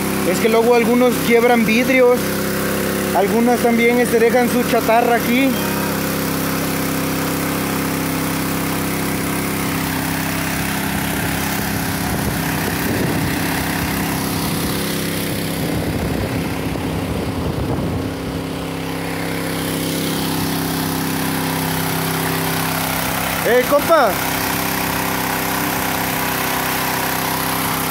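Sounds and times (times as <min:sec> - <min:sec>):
portable water pump engine: 0:00.0 - 0:27.9.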